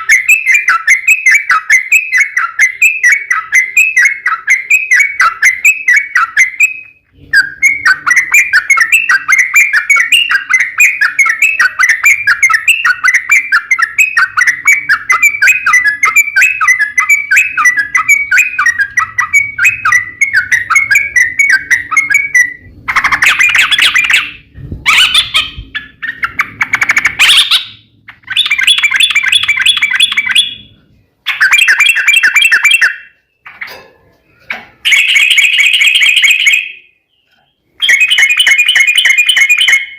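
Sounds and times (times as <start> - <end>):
bird singing chattering notes: 0.0 - 33.7, 34.4 - 39.9.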